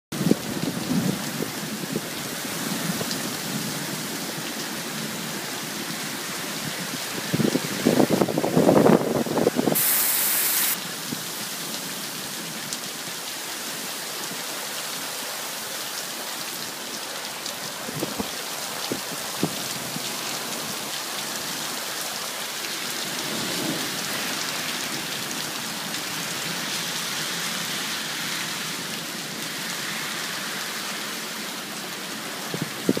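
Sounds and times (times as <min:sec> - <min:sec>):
heavy rain pouring on street: 0:00.2 - 0:33.0.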